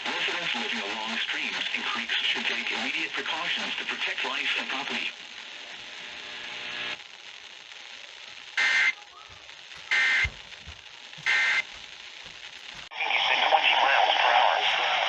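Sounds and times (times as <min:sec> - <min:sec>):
radio hiss: 0:00.0 - 0:15.0.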